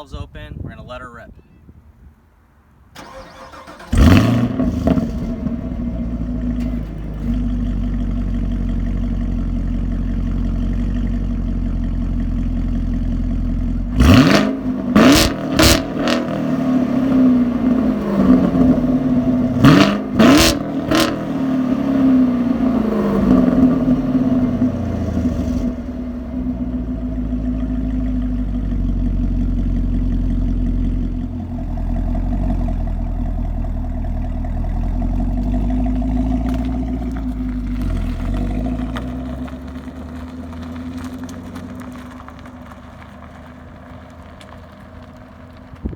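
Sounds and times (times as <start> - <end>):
car engine idling and revving: 3.0 - 45.9.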